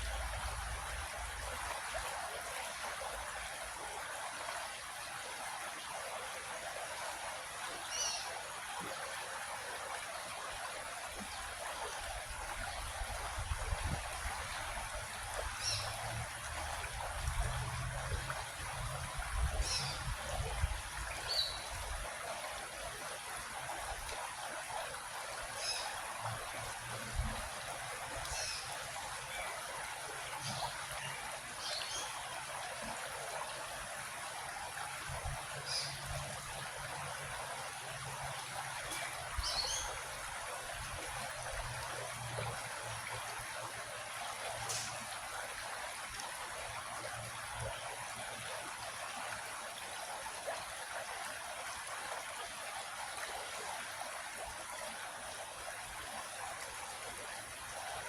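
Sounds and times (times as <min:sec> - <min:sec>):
creek trickling over rocks: 0:00.0 - 0:58.0.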